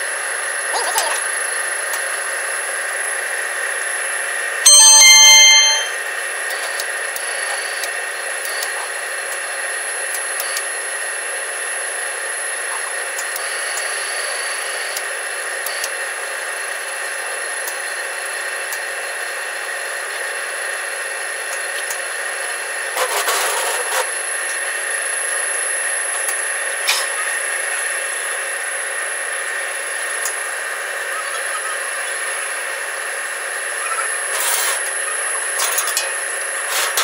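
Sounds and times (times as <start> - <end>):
rolling machine high whine: 0.0 - 37.0.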